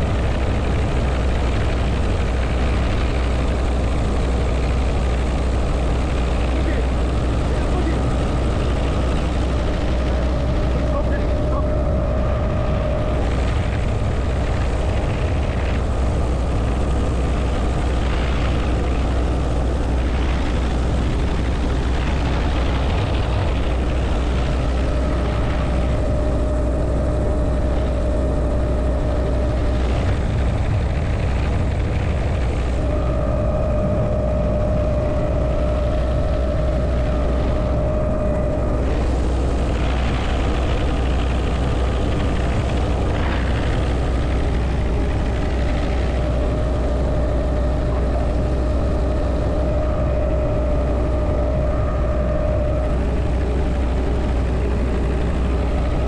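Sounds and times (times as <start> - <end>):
helicopter rotor and engine drone: 0.0 - 56.0
high whine: 0.0 - 56.0
wind rushing through cabin: 0.0 - 56.0.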